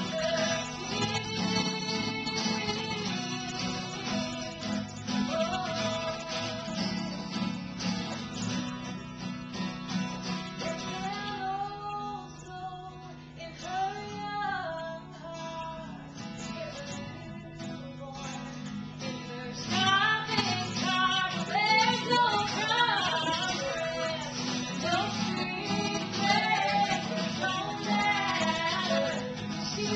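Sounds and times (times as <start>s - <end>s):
woman singing: 0.0s - 7.4s, 10.6s - 29.9s
strummed acoustic guitar: 0.0s - 29.9s.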